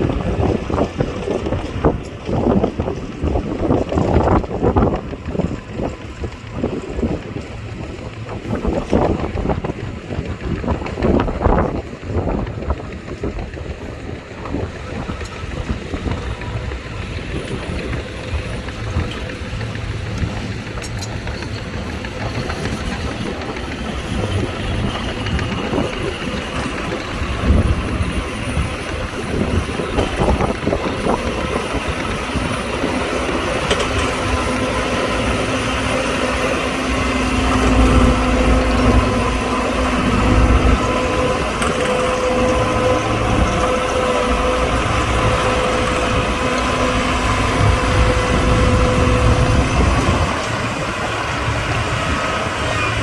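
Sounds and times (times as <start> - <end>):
heavy machinery diesel engine: 0.0 - 53.0
wind buffeting microphone: 0.0 - 53.0.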